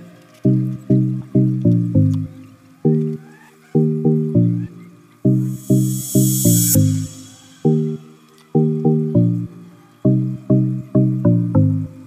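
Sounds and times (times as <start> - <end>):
low plucked melody: 0.0 - 12.0.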